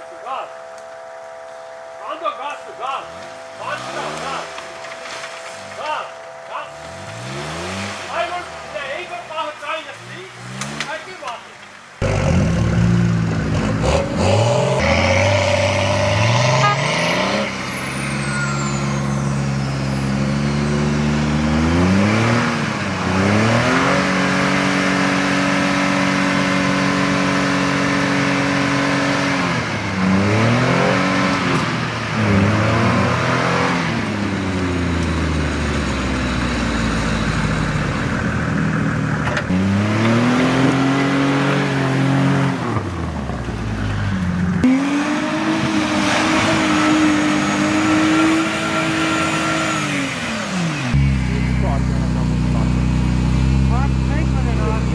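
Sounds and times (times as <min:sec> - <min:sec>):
car engine revving under load: 0:00.0 - 0:54.9.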